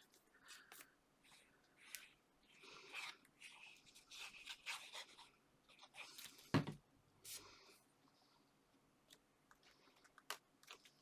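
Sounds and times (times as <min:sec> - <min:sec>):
faint rustle of paper: 0:00.0 - 0:06.6, 0:07.2 - 0:11.0.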